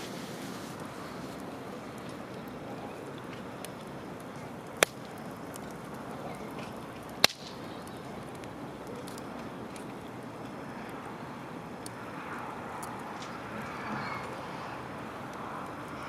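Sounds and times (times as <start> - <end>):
campfire crackling: 0.0 - 16.0
loud fire pops: 0.0 - 16.0.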